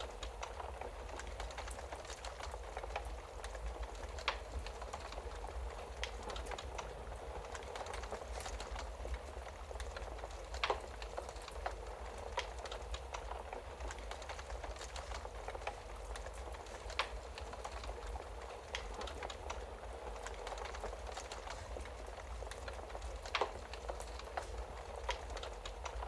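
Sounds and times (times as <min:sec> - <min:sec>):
loud fire pops: 0:00.0 - 0:26.0
wood fire crackling: 0:00.0 - 0:26.0.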